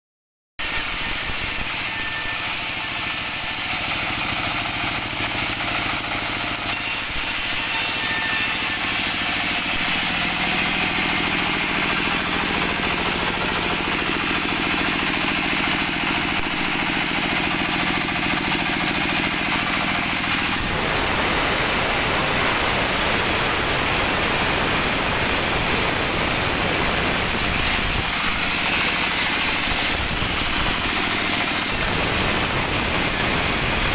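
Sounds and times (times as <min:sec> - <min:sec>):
band sawmill running: 0:00.6 - 0:33.9
saw blade cutting log: 0:00.6 - 0:33.9.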